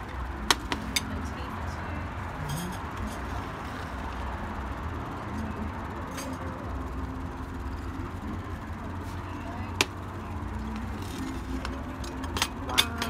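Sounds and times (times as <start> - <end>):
cafe background rumble: 0.0 - 13.0.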